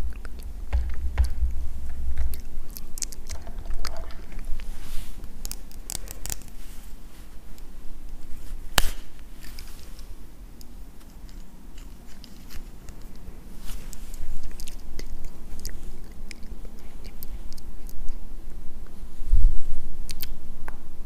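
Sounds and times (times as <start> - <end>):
small clicks and crackles: 0.0 - 18.2.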